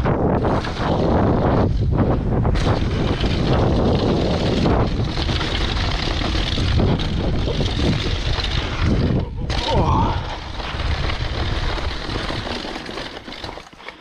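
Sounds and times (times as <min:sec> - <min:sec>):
wind buffeting microphone: 0:00.0 - 0:12.7
bike rattling: 0:00.0 - 0:14.0
tyres crunching over dirt and stone: 0:00.2 - 0:14.0.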